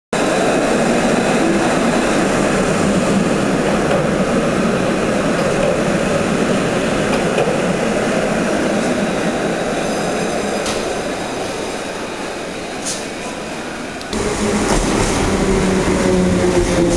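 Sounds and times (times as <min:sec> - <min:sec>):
tram wheels rumbling: 0:00.2 - 0:16.9.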